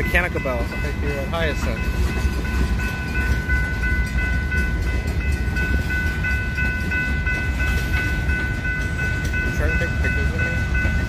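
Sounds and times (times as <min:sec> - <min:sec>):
crossing bell ringing: 0:00.0 - 0:11.0.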